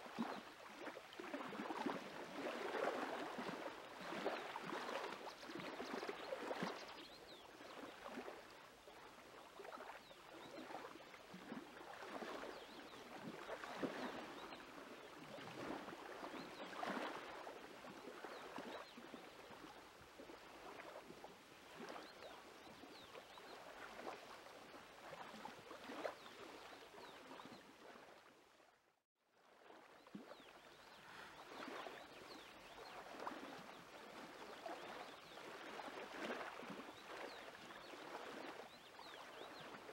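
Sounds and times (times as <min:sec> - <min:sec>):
small lake waves lapping: 0:00.0 - 0:39.9.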